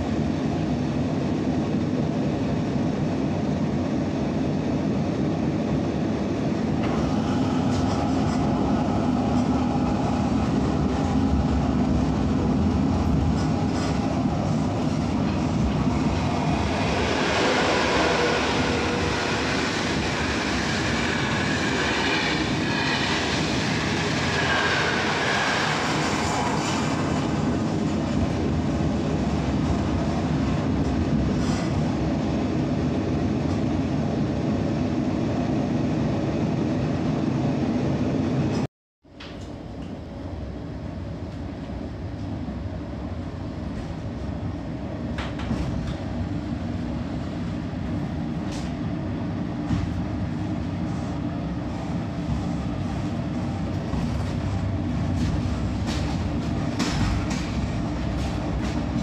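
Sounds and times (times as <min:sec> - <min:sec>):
train running over tracks: 0:00.0 - 0:38.7, 0:39.8 - 0:59.0.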